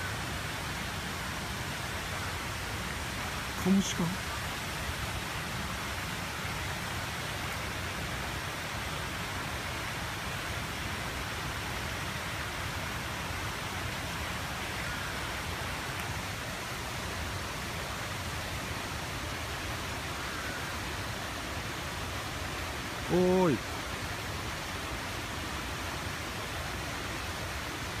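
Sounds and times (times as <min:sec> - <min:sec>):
outdoor ambience hiss: 0:00.0 - 0:28.0.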